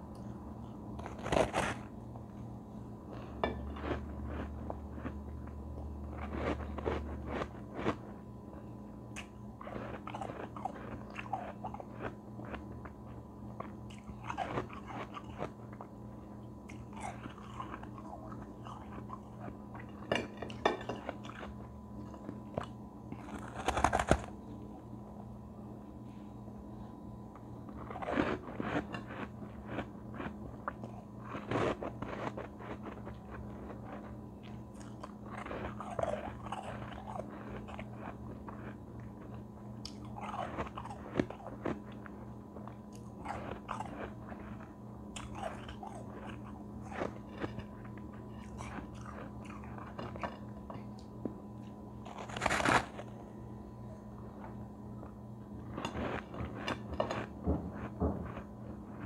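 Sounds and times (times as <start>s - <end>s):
ice being bitten and chewed: 1.0s - 1.9s, 3.1s - 8.2s, 9.1s - 16.0s, 16.6s - 24.3s, 27.6s - 53.2s, 54.2s - 59.0s.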